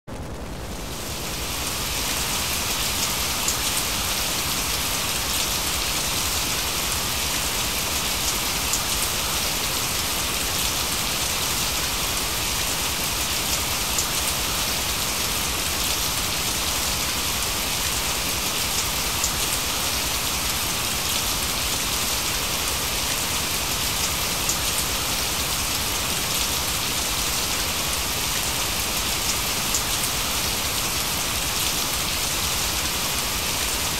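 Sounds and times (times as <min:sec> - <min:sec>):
steady rain falling: 0:00.1 - 0:33.9.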